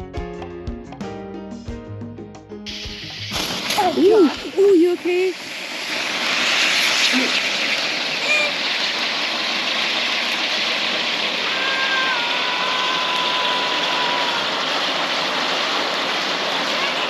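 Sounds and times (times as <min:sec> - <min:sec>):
ground firework hissing sparks: 0:02.7 - 0:17.0.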